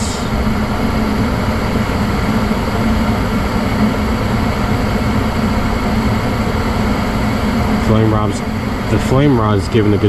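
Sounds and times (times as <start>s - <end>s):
furnace burners rushing: 0.0s - 10.0s
low steady hum: 0.0s - 10.0s.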